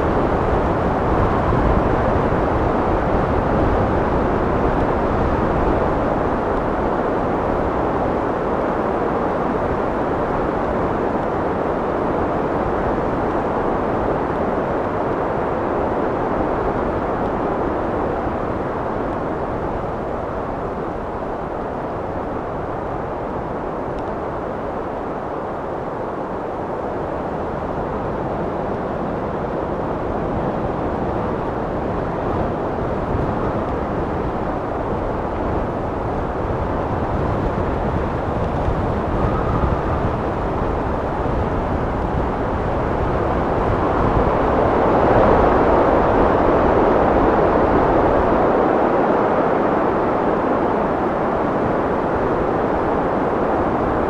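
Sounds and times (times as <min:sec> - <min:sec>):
steady wind rushing: 0:00.0 - 0:54.0.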